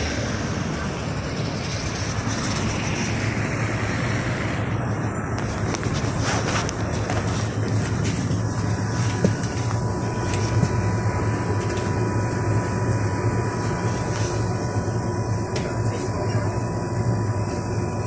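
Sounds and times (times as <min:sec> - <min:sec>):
minibus engine droning: 0:00.0 - 0:18.0
steady whine: 0:00.0 - 0:18.0.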